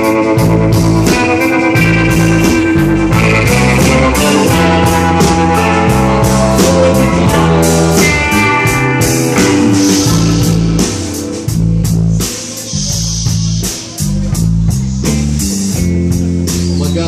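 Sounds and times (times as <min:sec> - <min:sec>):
bass: 0:00.0 - 0:17.0
drum kit beat: 0:00.0 - 0:17.0
electric guitars: 0:00.0 - 0:17.0.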